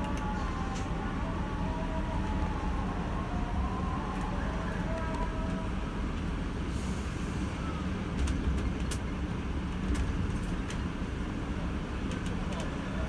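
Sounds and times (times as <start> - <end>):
coach engine and road rumble: 0.0 - 13.0.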